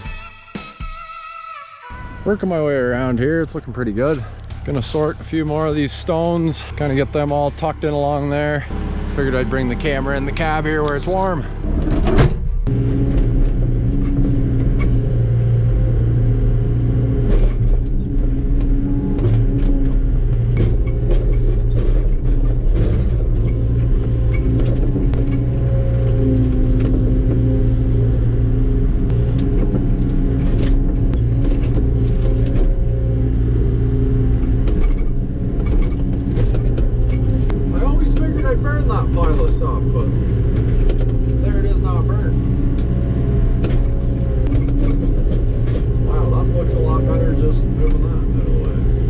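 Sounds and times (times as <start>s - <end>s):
hydraulic whine: 0.0s - 49.0s
excavator diesel engine running: 1.9s - 49.0s.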